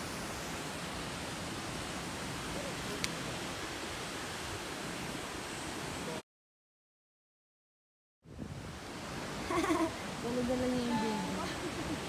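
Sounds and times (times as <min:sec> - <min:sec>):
mountain river rushing: 0:00.0 - 0:06.2, 0:08.4 - 0:12.0.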